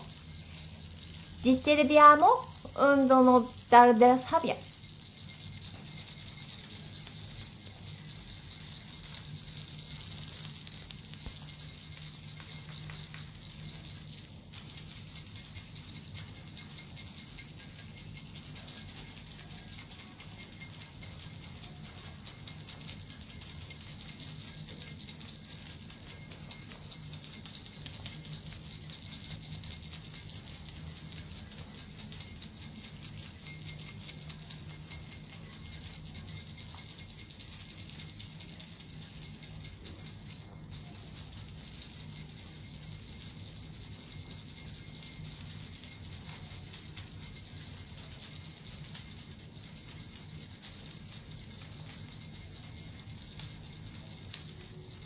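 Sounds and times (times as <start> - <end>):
small bells jingling: 0.0 - 55.0.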